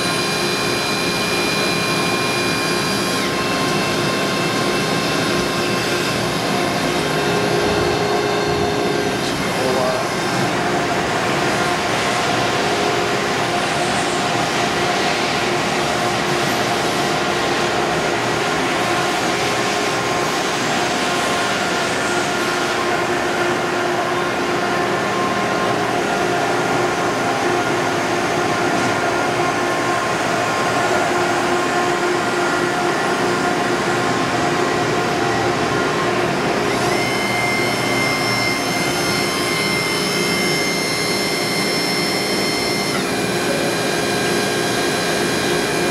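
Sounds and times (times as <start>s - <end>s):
machine mechanical hum: 0.0s - 45.9s
machine whining tones: 0.0s - 45.9s.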